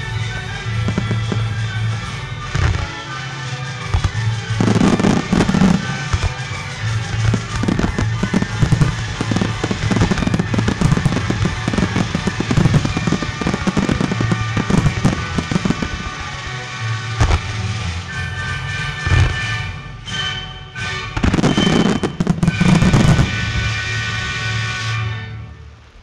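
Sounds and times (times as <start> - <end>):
show music: 0.0 - 24.8
fireworks bursting: 0.0 - 25.2
fireworks crackle: 0.0 - 26.0.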